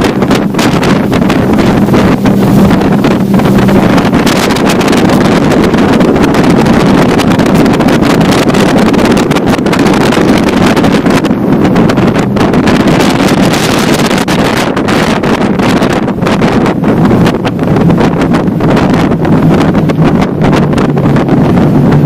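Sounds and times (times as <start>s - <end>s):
motorboat engine running: 0.0s - 22.0s
wind rushing over microphone: 0.0s - 22.0s.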